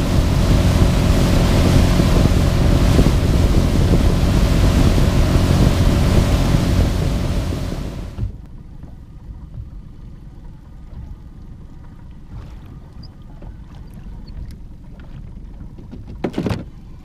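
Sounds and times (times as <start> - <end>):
wind and water rumble: 0.0 - 17.0.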